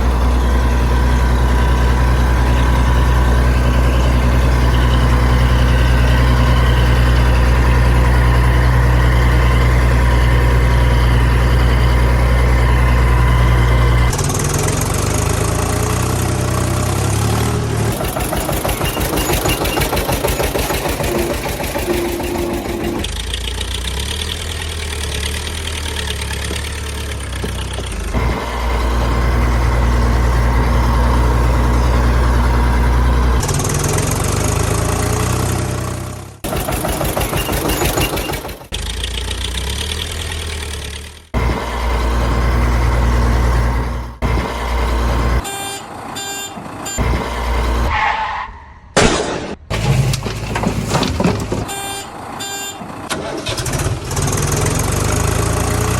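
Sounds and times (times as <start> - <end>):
engine idling: 0.0 - 46.2, 49.7 - 55.9.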